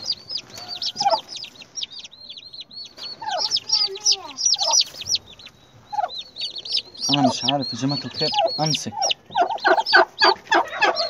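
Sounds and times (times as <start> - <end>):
lower falling bird calls: 0.0 - 11.0
turkey poults peeping: 0.0 - 11.0.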